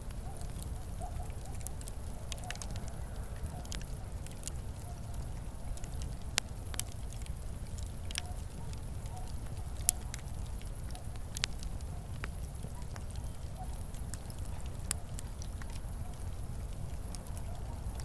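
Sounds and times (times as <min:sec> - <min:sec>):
fire crackling and popping: 0:00.0 - 0:18.0
fireplace fire rumbling: 0:00.0 - 0:18.0.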